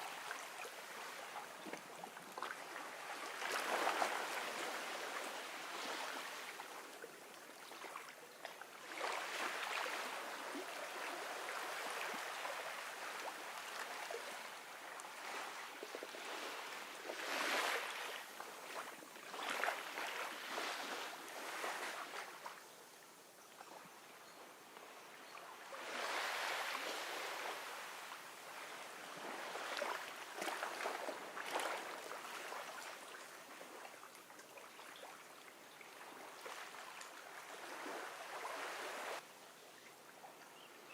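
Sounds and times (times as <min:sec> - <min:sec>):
gentle ocean waves washing ashore: 0:00.0 - 0:23.0, 0:23.8 - 0:39.3.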